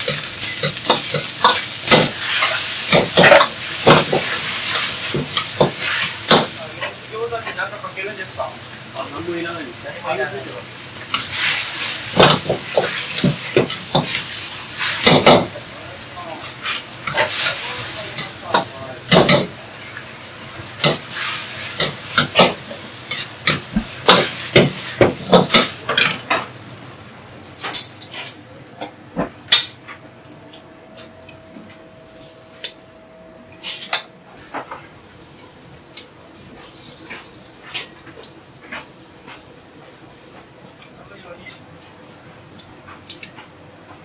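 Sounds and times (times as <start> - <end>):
food sizzling: 0.0 - 28.9, 34.4 - 43.3.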